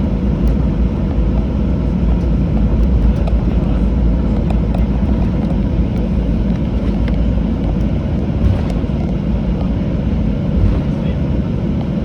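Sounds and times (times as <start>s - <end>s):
aircraft cabin rumble while taxiing: 0.0s - 12.0s.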